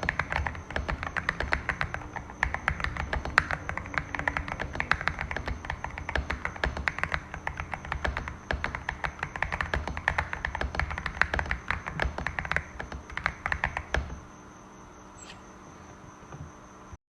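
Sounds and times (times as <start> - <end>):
mechanical keyboard typing: 0.0 - 14.2
faint steady hum: 0.0 - 17.0.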